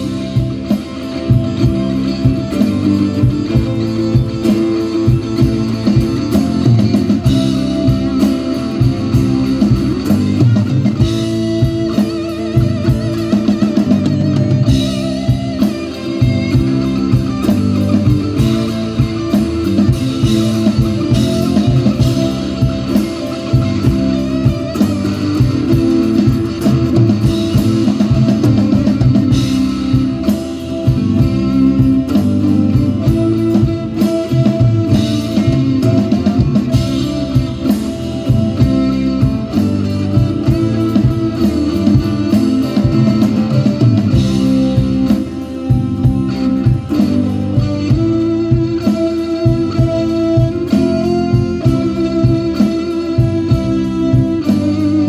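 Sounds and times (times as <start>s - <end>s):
bass guitar: 0.0s - 55.0s
drum kit: 0.0s - 55.0s
guitars: 0.0s - 55.0s.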